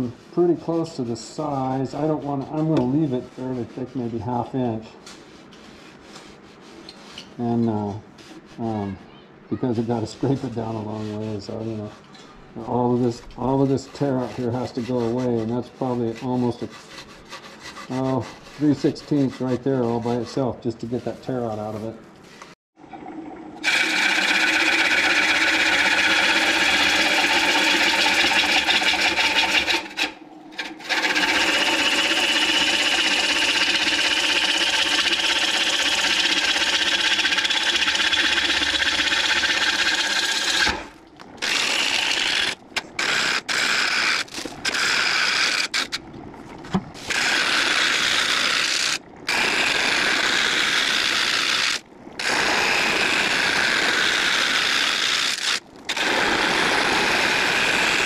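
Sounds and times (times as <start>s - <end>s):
lathe tool scraping wood: 0.0s - 8.9s, 9.6s - 22.6s, 23.6s - 46.0s, 47.0s - 58.0s.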